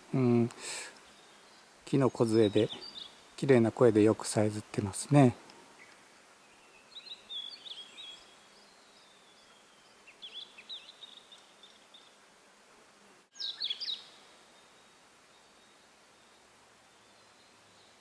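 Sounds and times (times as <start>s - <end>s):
songbird singing: 0.0s - 12.2s, 13.3s - 18.0s.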